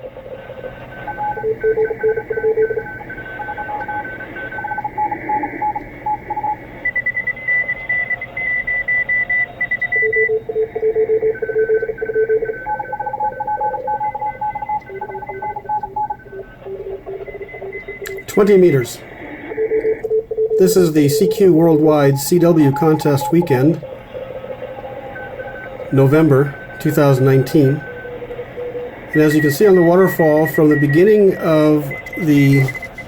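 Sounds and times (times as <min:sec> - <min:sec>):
steady radio band hiss: 0:00.0 - 0:11.3, 0:11.9 - 0:33.0
morse code signals: 0:00.0 - 0:33.0.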